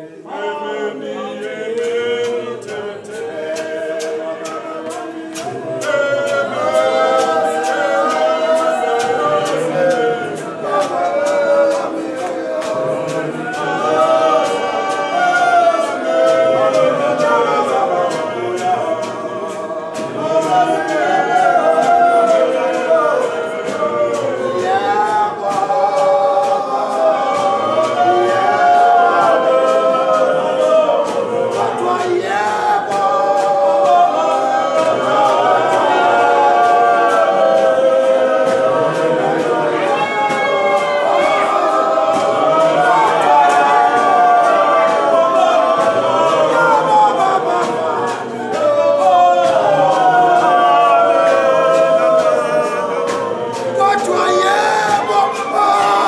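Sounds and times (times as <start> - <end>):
choir singing a capella: 0.0 - 56.0.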